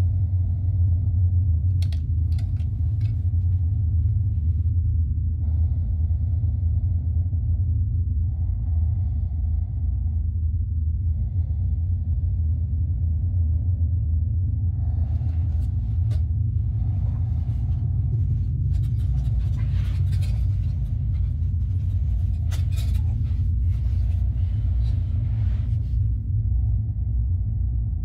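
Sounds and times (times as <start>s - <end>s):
deep low drone rumble: 0.0s - 28.0s.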